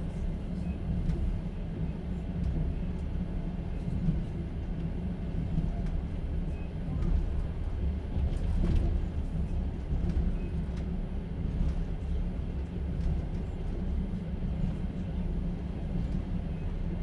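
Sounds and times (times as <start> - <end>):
low rumble of moving train: 0.0 - 17.0.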